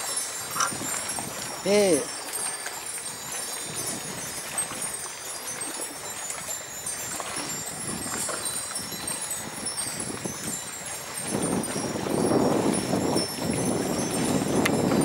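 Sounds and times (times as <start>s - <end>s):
wind chimes tinkling: 0.0s - 15.0s.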